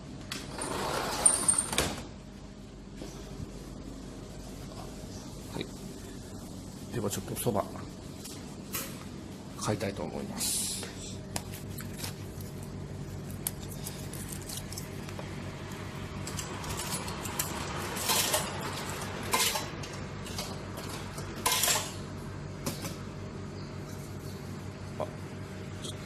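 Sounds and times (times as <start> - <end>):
vending machine hum: 0.0 - 26.0.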